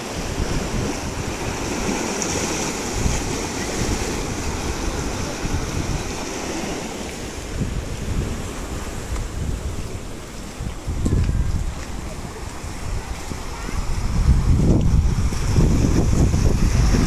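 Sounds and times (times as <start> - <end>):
rushing water: 0.0 - 17.0
wind buffeting microphone: 0.0 - 17.0.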